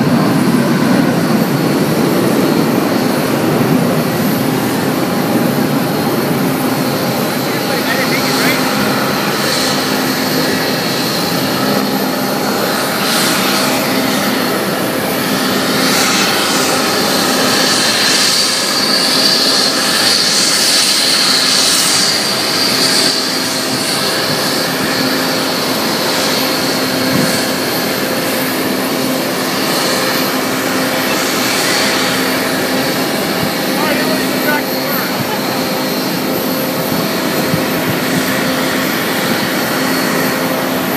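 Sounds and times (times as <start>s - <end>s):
jet engines roaring with high whine: 0.0s - 40.9s.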